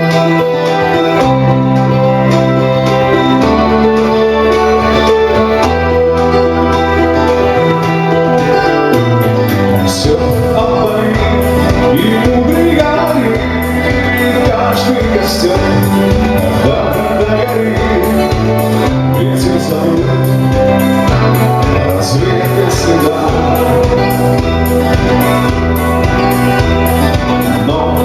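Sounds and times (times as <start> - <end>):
bass line: 0.0 - 28.0
keyboard chords: 0.0 - 28.0
live band playing: 0.0 - 28.0.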